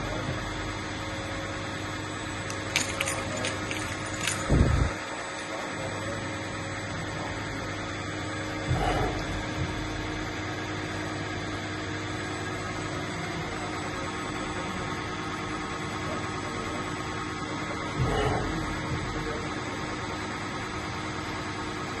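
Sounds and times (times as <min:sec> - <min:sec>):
electrical hum with constant tones: 0:00.0 - 0:22.0.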